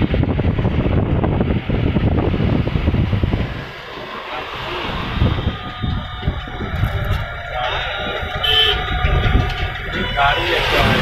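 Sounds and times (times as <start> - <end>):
vehicle engine and road noise: 0.0 - 11.0
wind buffeting microphone: 0.0 - 11.0.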